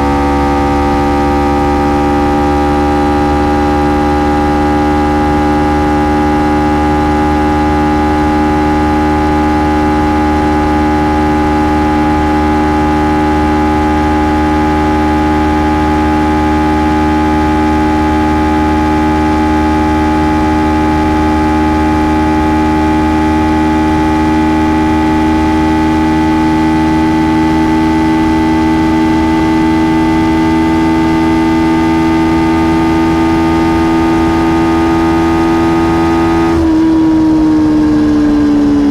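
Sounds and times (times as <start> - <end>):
motorcycle engine revving high: 0.0 - 38.9.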